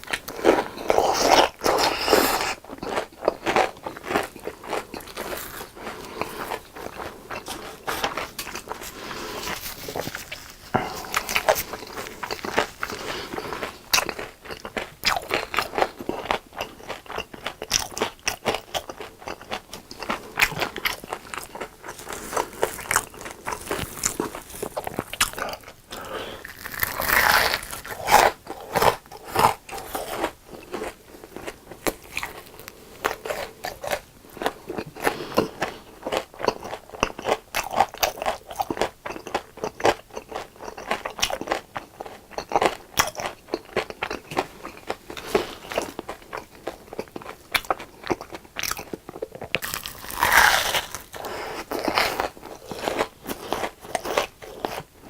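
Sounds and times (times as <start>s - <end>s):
crunchy fried food being chewed: 0.0s - 55.0s.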